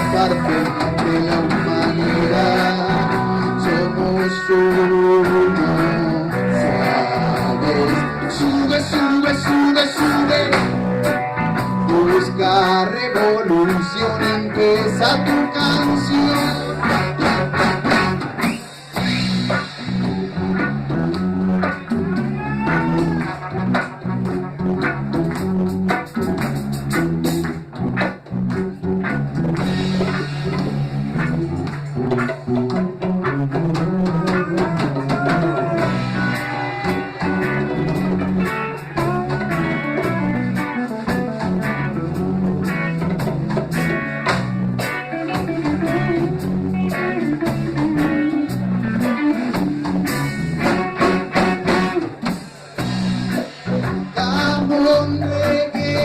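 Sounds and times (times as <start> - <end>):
bass line: 0.0 - 56.0
drum kit: 0.0 - 56.0
reggae guitar melody: 0.0 - 56.0.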